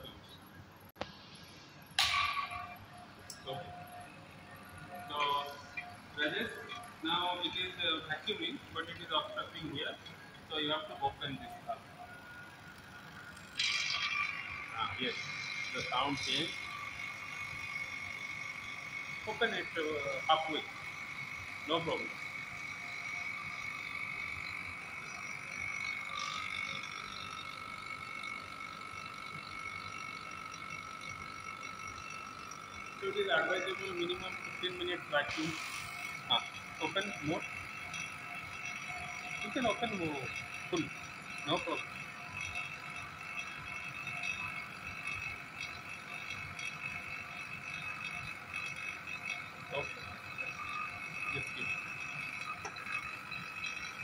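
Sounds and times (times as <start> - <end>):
vacuum pump whining: 0.9 - 54.0.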